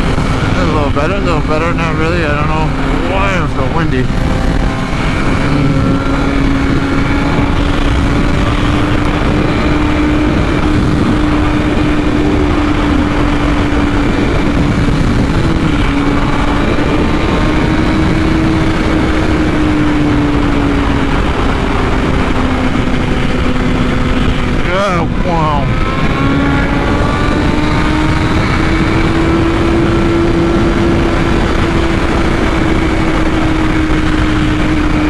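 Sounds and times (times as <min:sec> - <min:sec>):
motorcycle engine at high speed: 0:00.0 - 0:35.0
wind rushing through helmet: 0:00.0 - 0:35.0.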